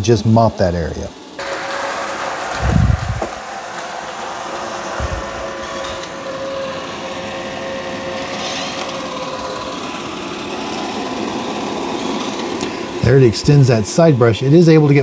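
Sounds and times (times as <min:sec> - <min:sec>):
robot vacuum motor hum: 0:00.3 - 0:15.0.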